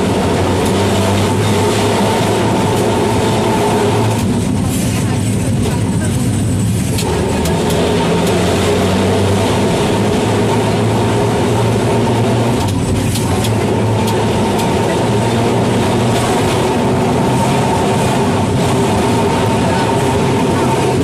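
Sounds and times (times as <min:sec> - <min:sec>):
electric tram rumble and hum: 0:00.0 - 0:21.0.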